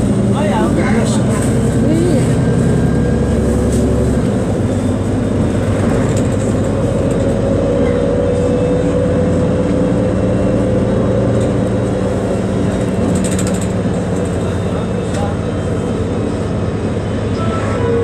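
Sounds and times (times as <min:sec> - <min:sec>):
bus engine hum: 0:00.0 - 0:18.0
road noise: 0:00.0 - 0:18.0.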